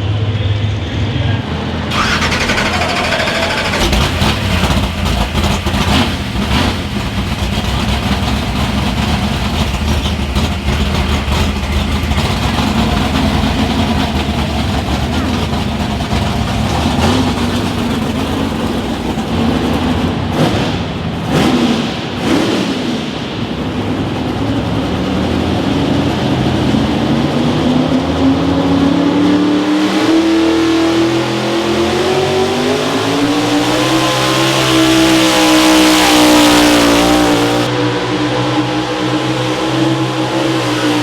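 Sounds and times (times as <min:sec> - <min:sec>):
vehicle engine revving at full throttle: 0:01.8 - 0:41.0.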